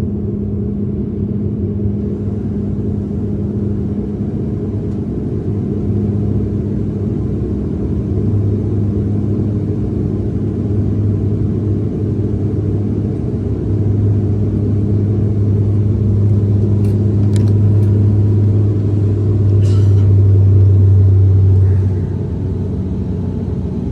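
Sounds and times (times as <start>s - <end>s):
airplane engine drone: 0.0s - 23.9s.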